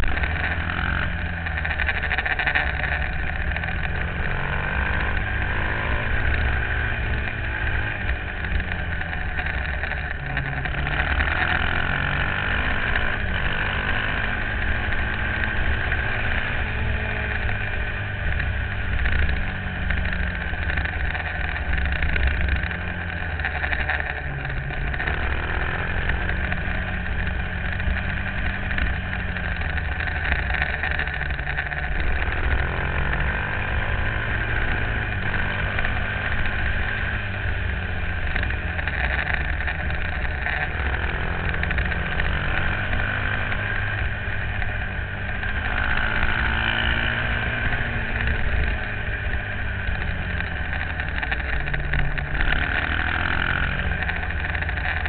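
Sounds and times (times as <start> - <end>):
motorcycle engine running hard: 0.0 - 55.0
road rumble: 0.0 - 55.0.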